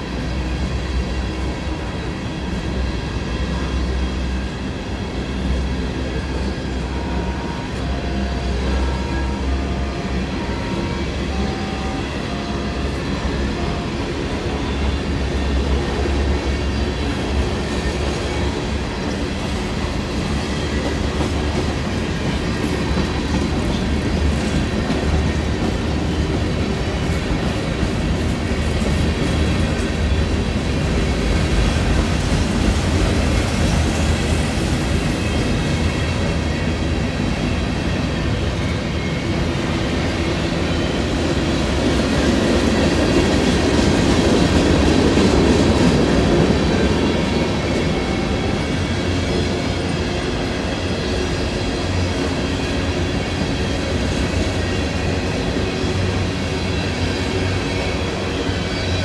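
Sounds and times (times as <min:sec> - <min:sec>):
steel wheels on rail: 0:00.0 - 0:59.0.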